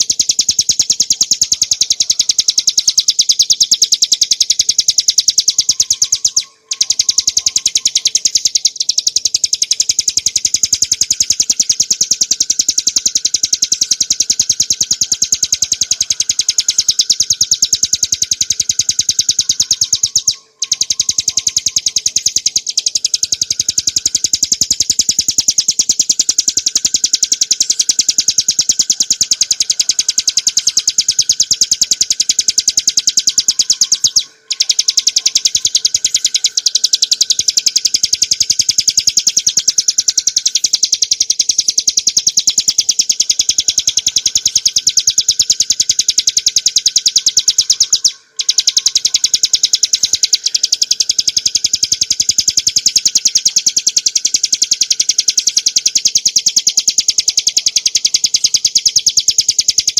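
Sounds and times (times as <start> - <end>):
bird trilling chatter: 0.0 - 59.9.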